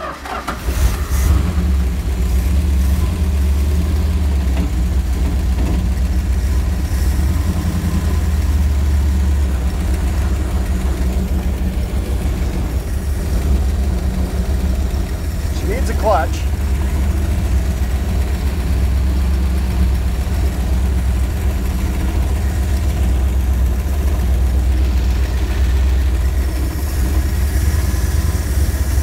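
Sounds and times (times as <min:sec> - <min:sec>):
engine running heard from cab: 0:00.0 - 0:29.0.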